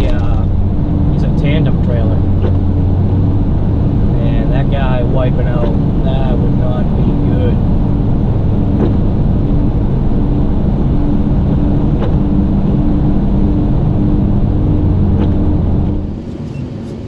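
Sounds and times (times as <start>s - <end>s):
pulsing low tone: 0.0s - 17.0s
truck engine and road rumble: 0.0s - 17.0s.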